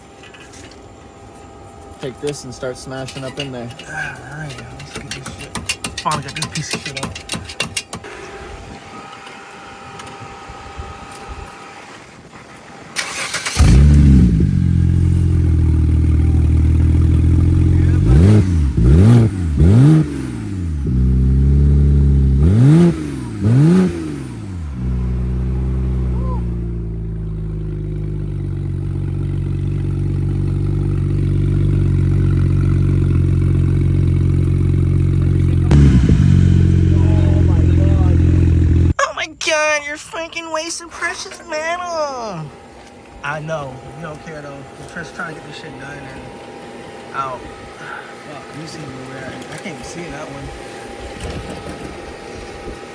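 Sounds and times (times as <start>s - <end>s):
car engine starting and idling: 0.0s - 39.0s, 41.1s - 52.9s.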